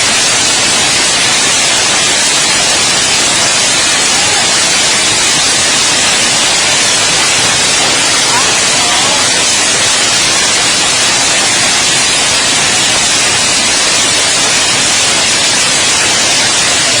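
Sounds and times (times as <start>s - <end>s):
heavy rain and hail: 0.0s - 17.0s.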